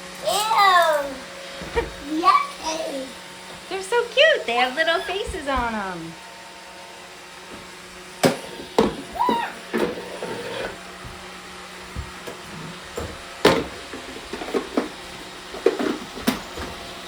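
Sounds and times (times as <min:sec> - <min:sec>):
robot vacuum humming: 0:01.2 - 0:17.0.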